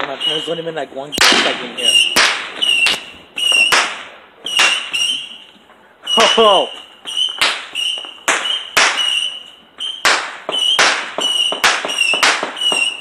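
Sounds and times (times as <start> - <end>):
fireworks banging: 0.0 - 13.0.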